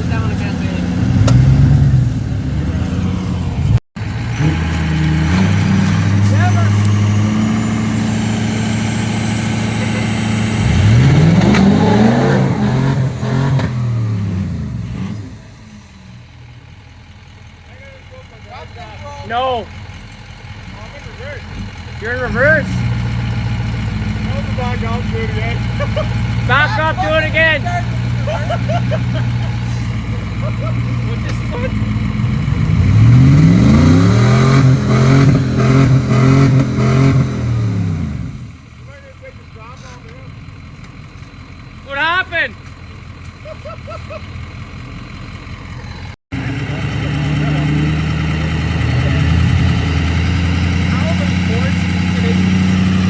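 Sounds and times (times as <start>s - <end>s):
vehicle engine revving: 0.0s - 16.6s, 17.6s - 40.8s, 43.2s - 53.0s.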